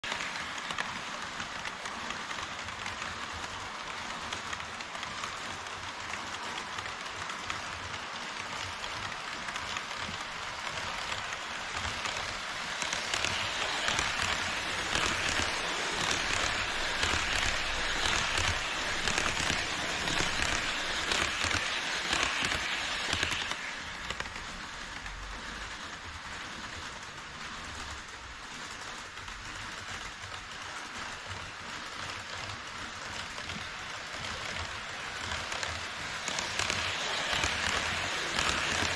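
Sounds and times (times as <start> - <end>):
model train wheels rattling on rails: 0.0 - 38.9.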